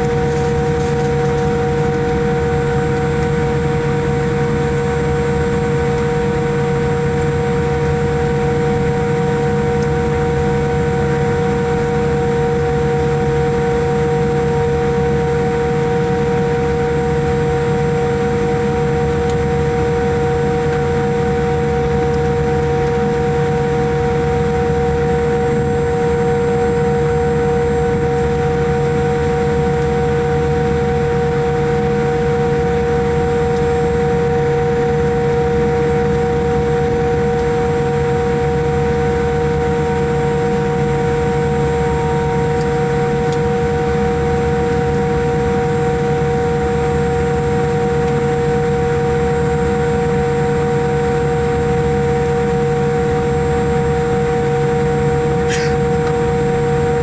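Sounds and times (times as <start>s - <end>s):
aircraft cabin whine and rumble: 0.0s - 57.0s.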